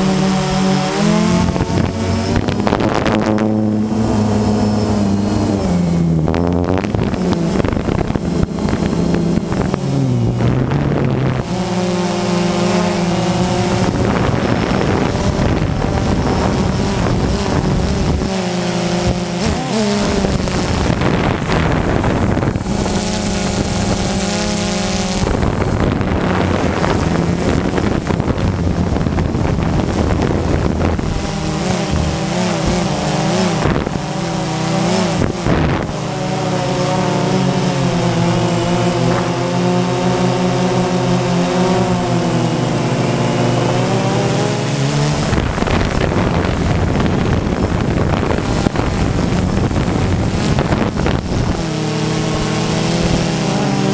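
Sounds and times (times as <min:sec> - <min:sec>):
drone propellers buzzing: 0:00.0 - 0:53.9
wind noise on microphone: 0:00.0 - 0:53.9.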